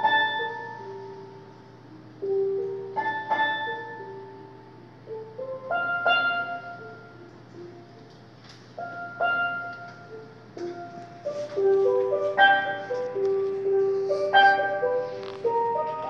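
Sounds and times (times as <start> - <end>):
steelpan melody: 0.0 - 8.2, 8.8 - 16.0.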